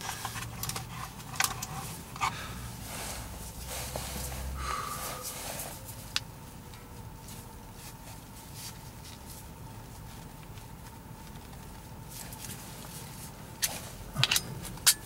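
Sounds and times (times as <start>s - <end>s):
rustling of gloved hand: 0.0s - 14.1s.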